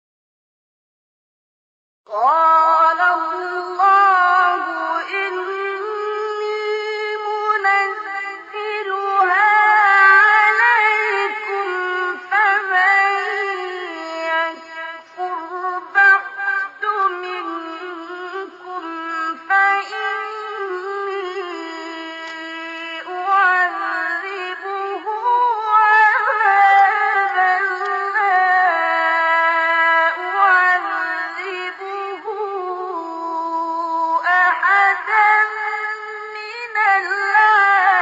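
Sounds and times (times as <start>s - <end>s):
man reciting melodically: 2.4s - 38.0s.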